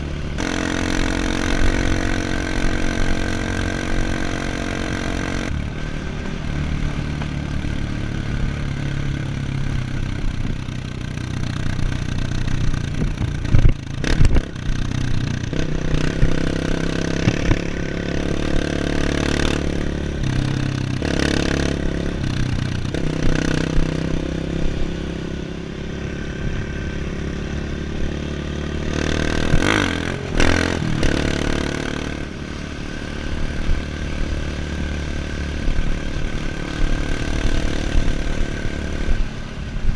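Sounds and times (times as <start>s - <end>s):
off-road motorcycle engine: 0.0s - 39.9s.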